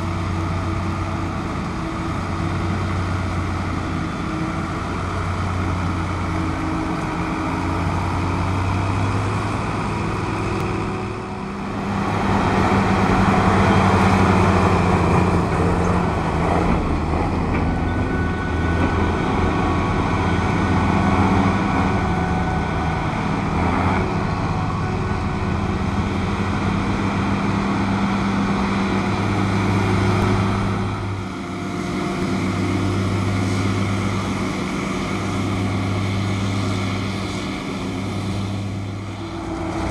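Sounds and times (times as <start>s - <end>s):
diesel engines humming: 0.0s - 39.9s.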